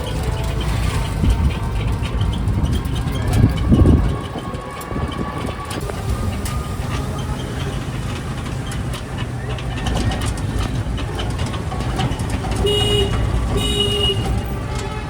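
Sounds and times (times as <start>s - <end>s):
rattling and clicking: 0.0s - 15.0s
vehicle engine hum: 0.0s - 15.0s.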